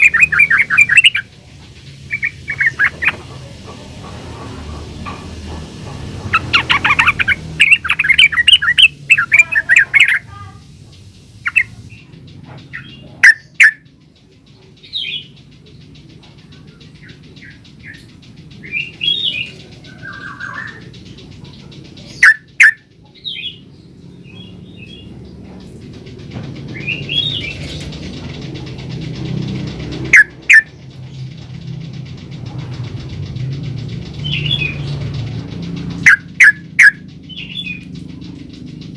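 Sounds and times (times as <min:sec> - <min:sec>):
bird singing and chirping: 0:00.0 - 0:38.9.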